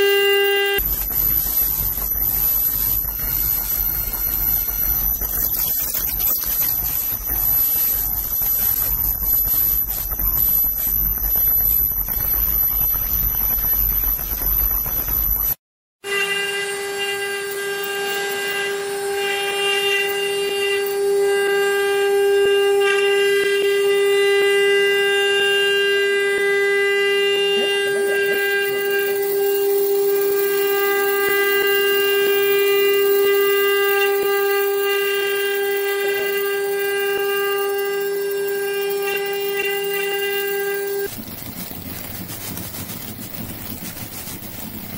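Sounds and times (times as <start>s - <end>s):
router spindles whining: 0.0s - 15.5s, 16.1s - 44.9s.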